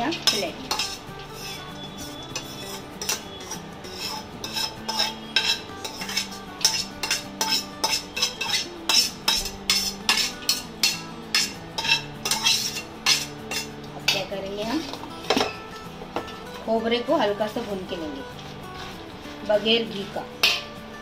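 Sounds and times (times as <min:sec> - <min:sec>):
seeds clinking on steel plate: 0:00.0 - 0:15.8, 0:19.5 - 0:20.8
metal spoon scraping wok: 0:00.0 - 0:16.7, 0:17.7 - 0:21.0.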